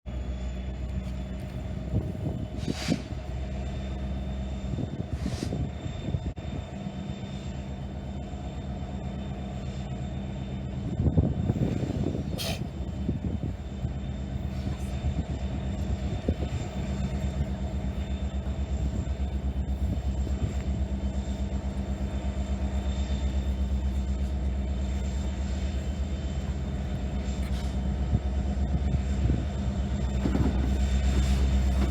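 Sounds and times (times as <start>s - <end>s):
large engine idling: 0.0s - 31.9s.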